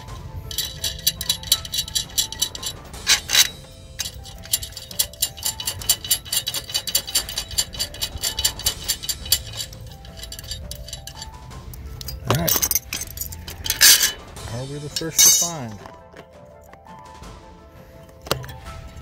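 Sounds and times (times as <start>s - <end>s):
music with ticking beat: 0.0s - 19.0s.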